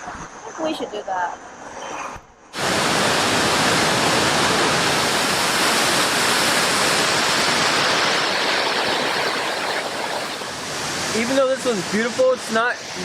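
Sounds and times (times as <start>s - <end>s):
waterfall roaring: 2.6s - 13.0s.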